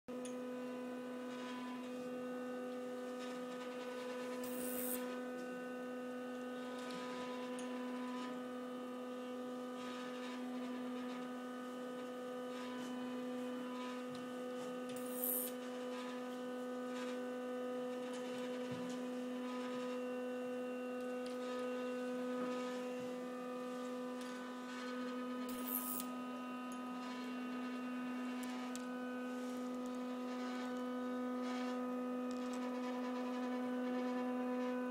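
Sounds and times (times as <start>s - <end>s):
steady electronic hum: 1.8s - 9.6s, 12.8s - 33.3s.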